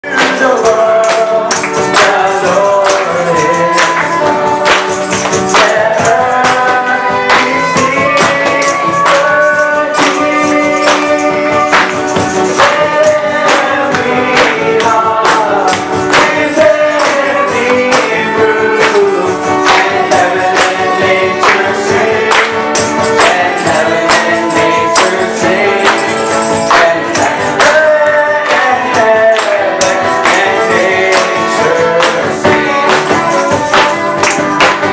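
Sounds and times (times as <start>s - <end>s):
instrumental backing: 0.0s - 34.9s
people singing: 0.0s - 34.9s
tambourine: 0.0s - 34.9s.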